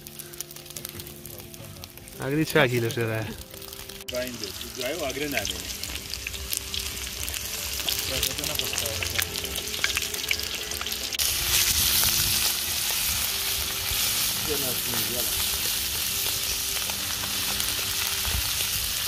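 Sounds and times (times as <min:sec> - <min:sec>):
meat frying in oil: 0:00.0 - 0:19.0.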